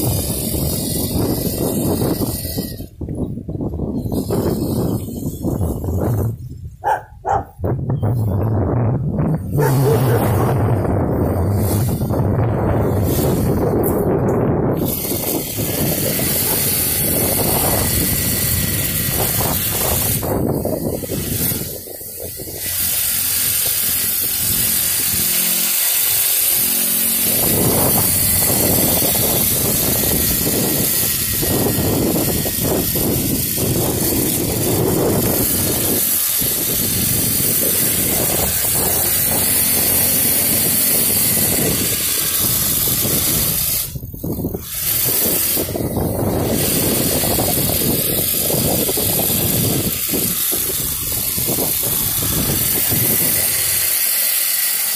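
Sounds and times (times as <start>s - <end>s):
small dirt bike engine buzzing: 0.0s - 54.9s.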